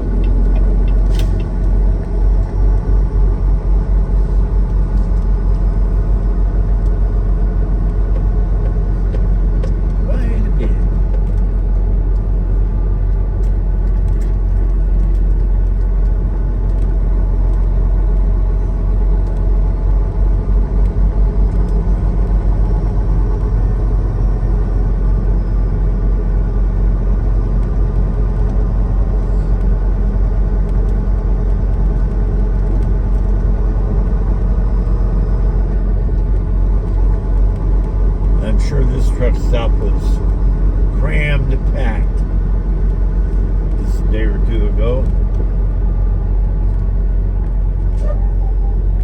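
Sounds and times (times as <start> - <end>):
diesel engine rumbling: 0.0 - 49.0.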